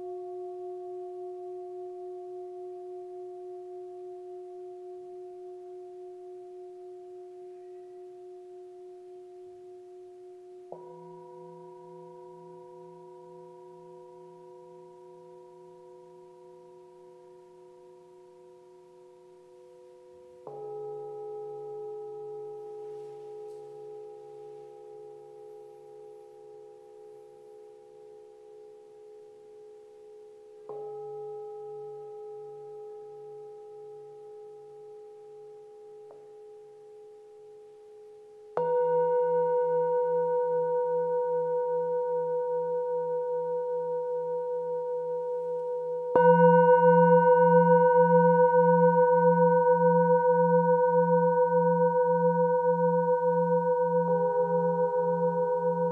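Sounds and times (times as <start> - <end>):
singing bowl struck and ringing: 0.0 - 29.4, 30.7 - 37.4, 38.6 - 55.9.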